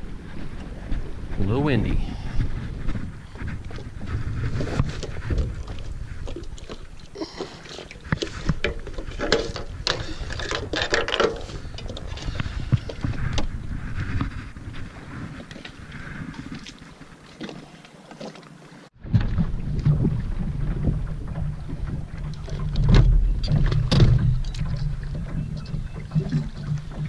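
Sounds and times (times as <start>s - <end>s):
wind buffeting microphone: 0.0s - 17.4s, 19.0s - 27.0s
footsteps on a dock: 0.0s - 27.0s.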